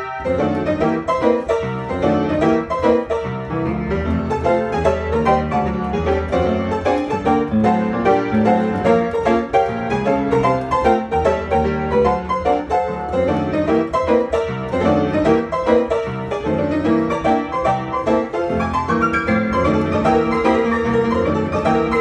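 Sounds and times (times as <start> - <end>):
player piano playing: 0.0 - 22.0.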